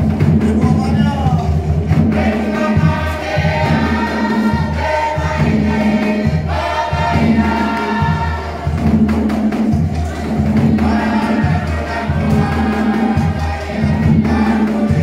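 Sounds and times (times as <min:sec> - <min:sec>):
group of voices singing: 0:00.2 - 0:15.0.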